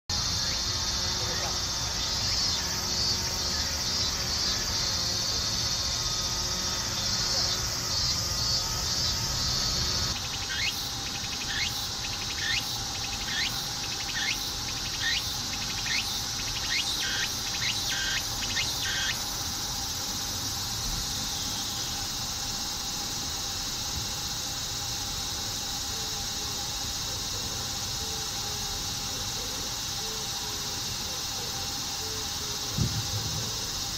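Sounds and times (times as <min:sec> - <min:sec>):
insects hissing: 0:00.1 - 0:33.9
pulsing sweeping insect call: 0:00.1 - 0:33.9.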